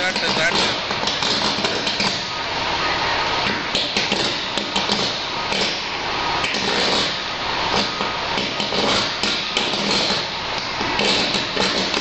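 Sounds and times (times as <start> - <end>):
electrical arcing crackle: 0.0 - 12.0.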